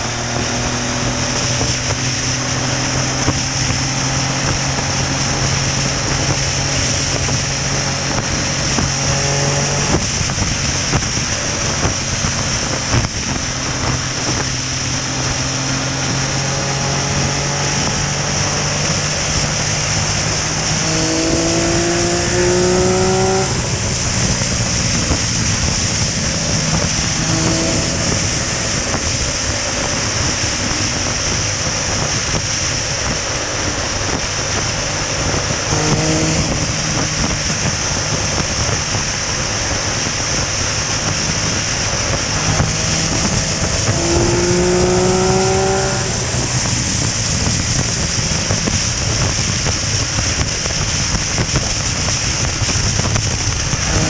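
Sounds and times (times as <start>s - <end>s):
motorcycle engine hum: 0.0s - 54.0s
wind rush on microphone: 0.0s - 54.0s.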